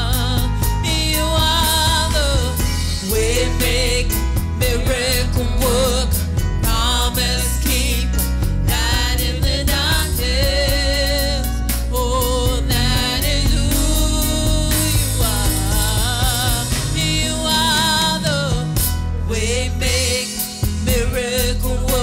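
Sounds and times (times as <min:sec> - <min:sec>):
instrumental backing with bass: 0:00.0 - 0:22.0
woman singing gospel song: 0:00.0 - 0:22.0.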